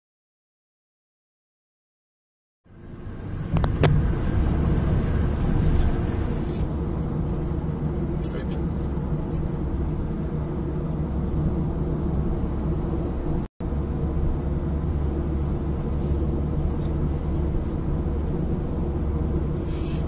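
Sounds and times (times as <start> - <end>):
car road and engine rumble: 2.7 - 20.0.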